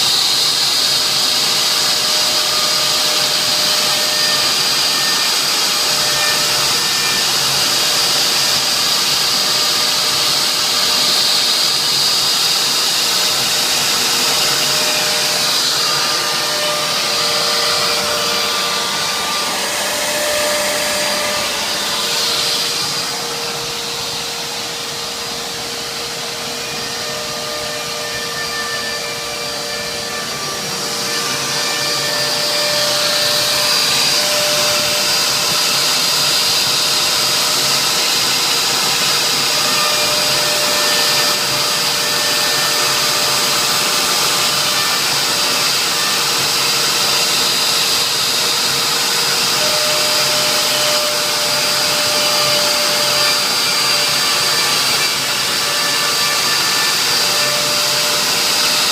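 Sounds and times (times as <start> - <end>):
cnc router spindle whining: 0.0 - 58.9.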